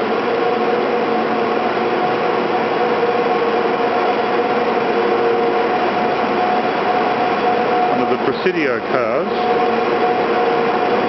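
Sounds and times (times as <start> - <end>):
cable machinery drone: 0.0 - 11.0
steady hum tones: 0.0 - 11.0.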